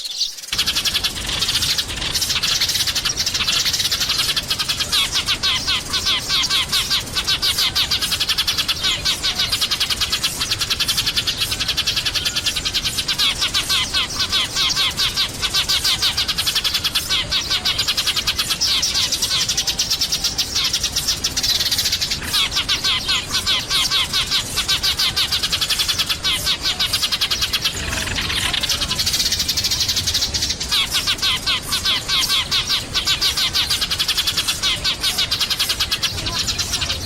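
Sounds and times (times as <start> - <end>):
sparrows chirping: 0.0 - 37.0.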